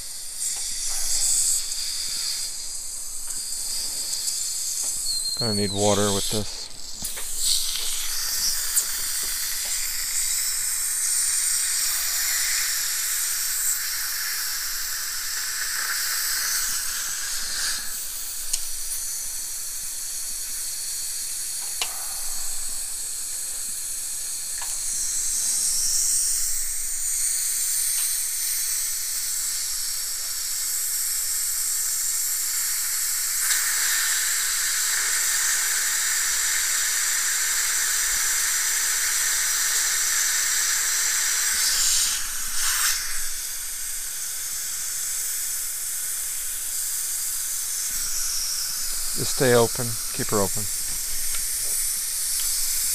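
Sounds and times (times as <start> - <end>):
dental drill hissing: 0.0 - 52.9.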